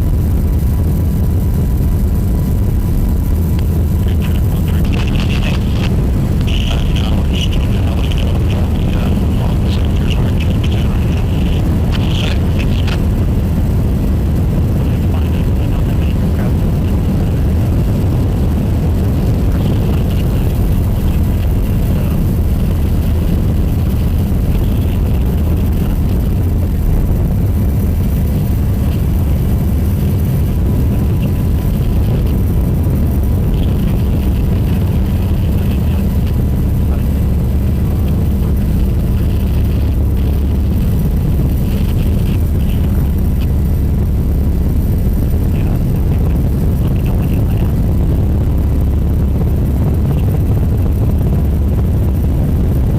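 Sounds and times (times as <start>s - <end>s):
aircraft engine drone: 0.0s - 52.9s.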